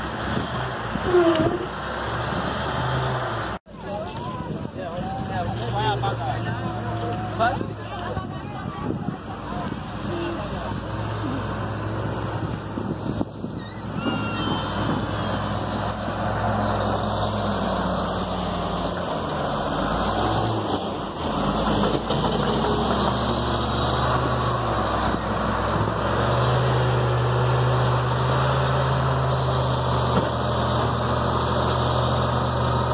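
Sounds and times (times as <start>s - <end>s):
wheel loader diesel engine: 0.0s - 32.9s.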